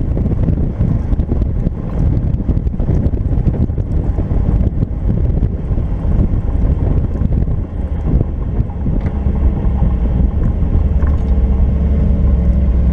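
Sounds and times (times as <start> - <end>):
car engine rumbling: 0.0 - 12.9
wind buffeting the microphone: 0.0 - 12.9.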